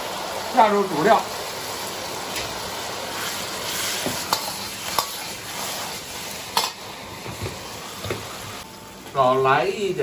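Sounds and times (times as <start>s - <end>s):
sauce sizzling in a wok: 0.0s - 9.0s.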